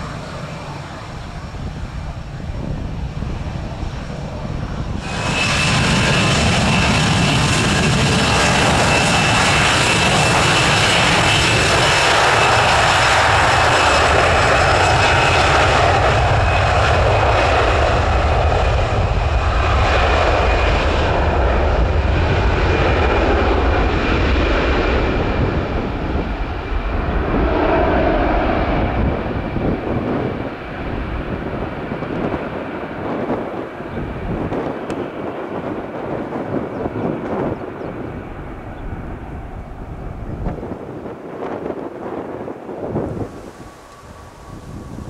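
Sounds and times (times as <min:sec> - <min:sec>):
high engine whine: 0:00.0 - 0:45.0
jet engines at take-off power: 0:00.0 - 0:45.0.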